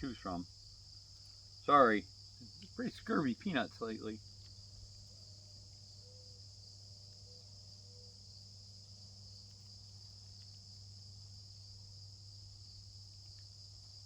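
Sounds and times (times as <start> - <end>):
faint low hum: 0.0 - 14.0
insect chorus: 0.0 - 14.0.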